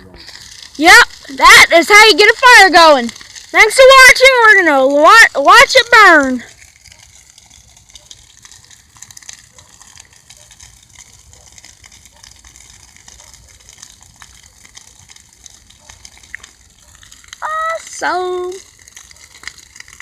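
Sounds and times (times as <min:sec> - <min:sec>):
fire crackling: 0:00.0 - 0:20.0
low rushing of flames: 0:00.0 - 0:20.0.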